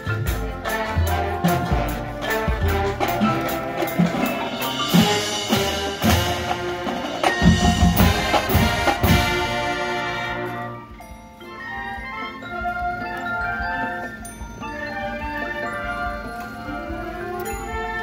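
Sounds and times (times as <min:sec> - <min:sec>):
mallet percussion: 0:00.0 - 0:18.0
marching band playing: 0:00.0 - 0:18.0.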